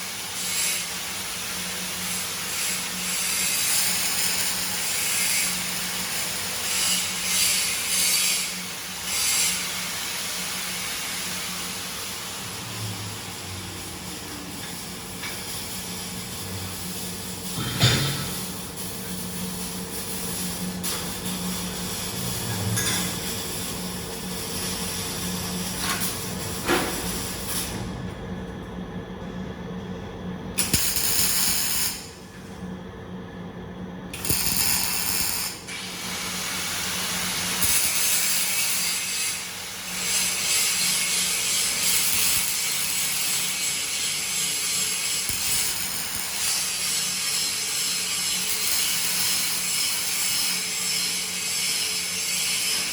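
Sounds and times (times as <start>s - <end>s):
welding arc crackling and hissing: 0.0s - 27.8s, 30.5s - 32.6s, 34.0s - 52.9s.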